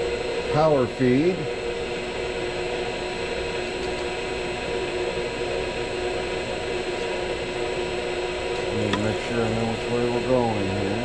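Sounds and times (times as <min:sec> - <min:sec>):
milling machine motor humming: 0:00.0 - 0:11.0.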